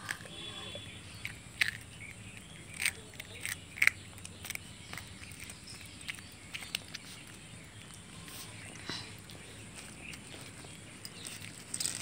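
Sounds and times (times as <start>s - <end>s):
puppy chewing crunches: 0.0s - 12.0s.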